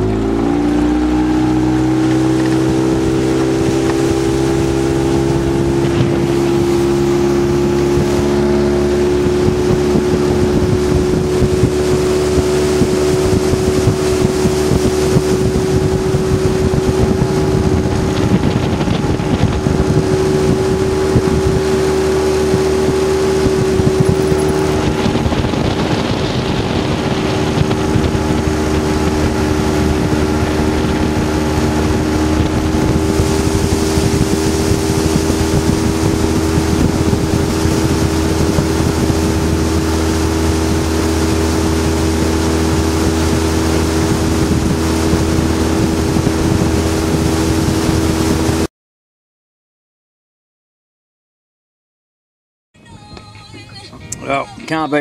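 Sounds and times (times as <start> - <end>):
outboard motor running: 0.0 - 48.7
wind on microphone: 0.0 - 48.7.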